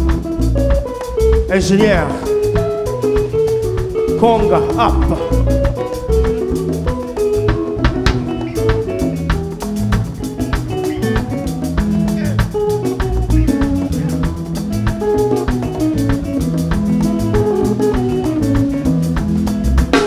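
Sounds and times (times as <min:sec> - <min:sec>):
live band playing rumba: 0:00.0 - 0:20.0.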